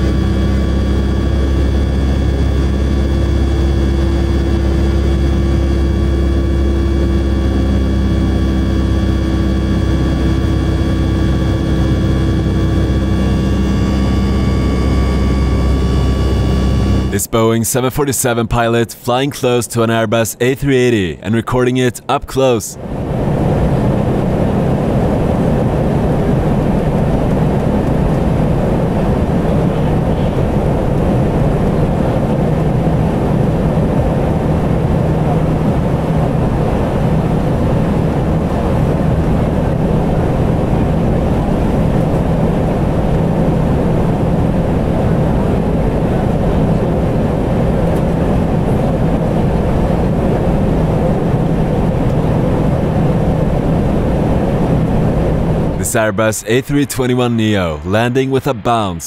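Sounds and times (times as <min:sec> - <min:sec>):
low hum: 0:00.0 - 0:21.5, 0:22.2 - 0:59.0.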